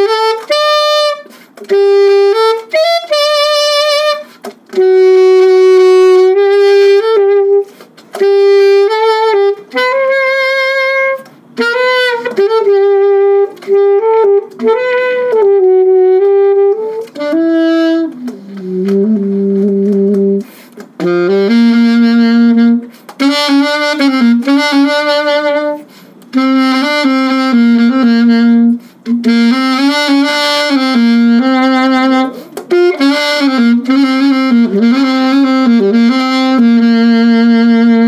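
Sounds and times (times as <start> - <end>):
alto saxophone melody: 0.0 - 38.0.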